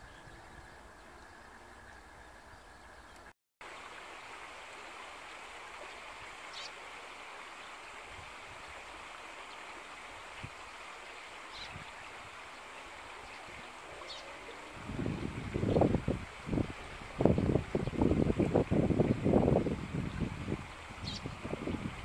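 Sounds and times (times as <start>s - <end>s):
stream water flowing: 3.2s - 22.0s.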